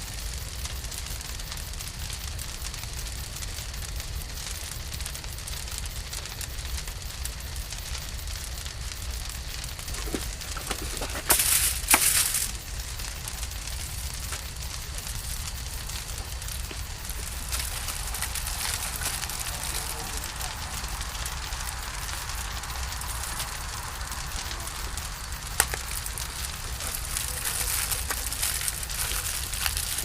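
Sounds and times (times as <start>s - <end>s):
campfire crackling: 0.0s - 30.0s
fire hissing and sharp pops: 0.0s - 30.0s.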